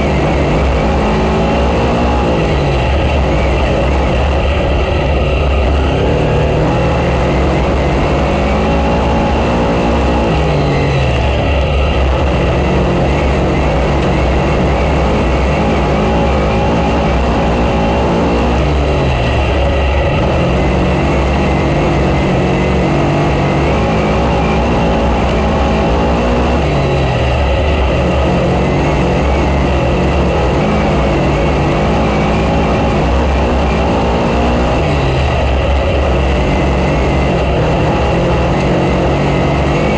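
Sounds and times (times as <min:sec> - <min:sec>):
low rumble: 0:00.0 - 0:39.9
race car engine: 0:00.0 - 0:39.9.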